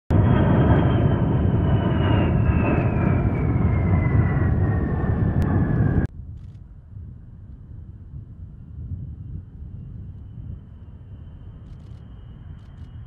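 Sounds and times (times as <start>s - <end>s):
jet engine roar with whine: 0.1s - 13.0s
faint wind noise: 2.2s - 13.0s.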